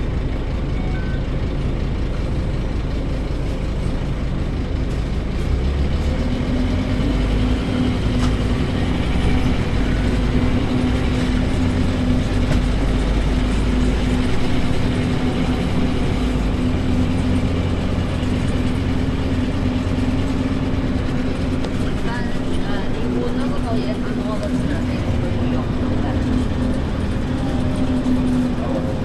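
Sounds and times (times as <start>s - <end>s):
bus diesel engine running: 0.0s - 29.0s.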